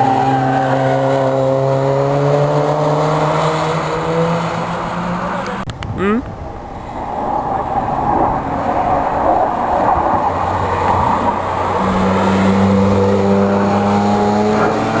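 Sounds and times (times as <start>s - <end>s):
race car passing: 0.0s - 5.6s, 6.5s - 15.0s.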